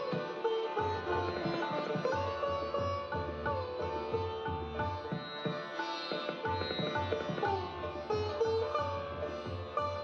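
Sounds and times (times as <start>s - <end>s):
plucked string melody: 0.0s - 10.0s.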